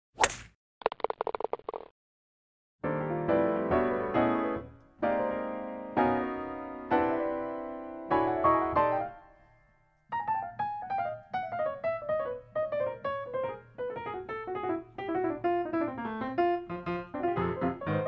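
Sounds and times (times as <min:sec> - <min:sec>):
piano chords and melody: 0:02.8 - 0:18.0.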